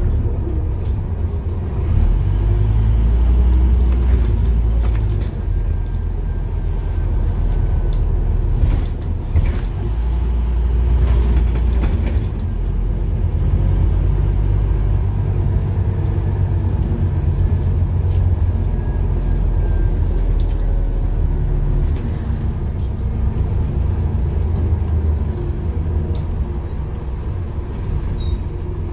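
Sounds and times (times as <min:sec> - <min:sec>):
bus engine rumble: 0:00.0 - 0:28.9.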